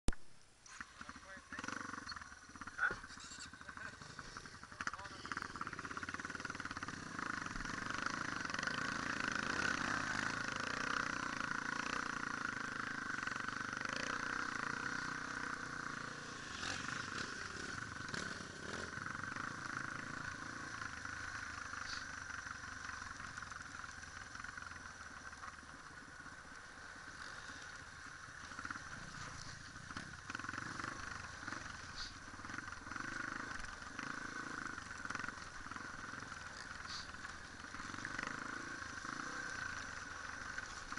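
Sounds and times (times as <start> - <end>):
motorcycle engine revving: 0.6 - 40.9.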